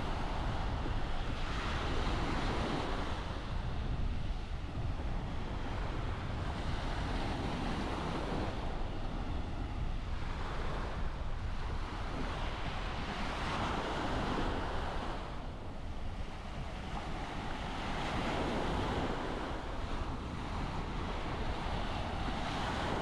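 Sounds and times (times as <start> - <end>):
small waves on sandy beach: 0.0 - 23.0
wind rumbling on microphone: 0.0 - 23.0.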